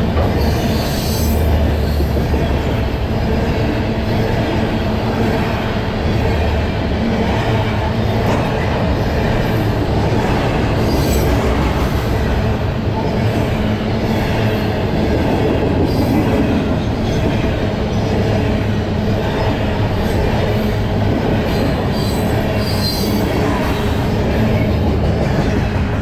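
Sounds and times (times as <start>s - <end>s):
steel wheels clattering on rails: 0.0s - 26.0s.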